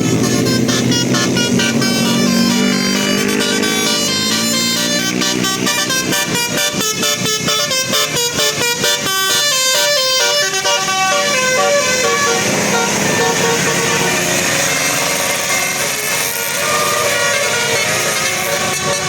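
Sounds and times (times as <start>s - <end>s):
bus musical horn playing tune: 0.0s - 19.0s.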